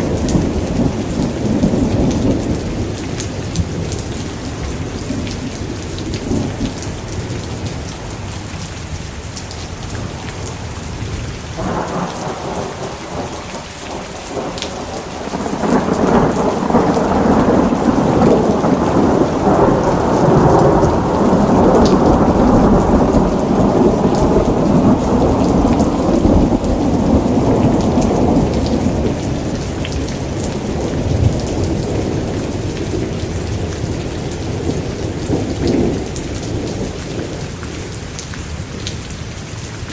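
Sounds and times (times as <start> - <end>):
rolling thunder rumble: 0.0 - 8.1, 11.5 - 37.9
steady rain: 0.0 - 39.9.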